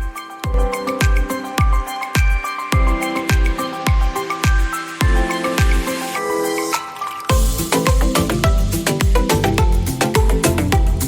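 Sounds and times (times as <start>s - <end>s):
upbeat dance music: 0.0s - 11.0s.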